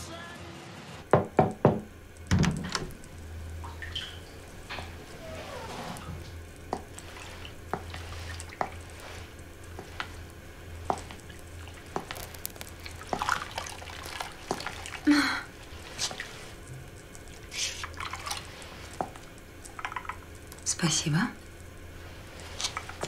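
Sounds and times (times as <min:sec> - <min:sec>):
steady low hum: 0:00.6 - 0:23.0
water dripping: 0:02.0 - 0:05.3, 0:06.0 - 0:23.0.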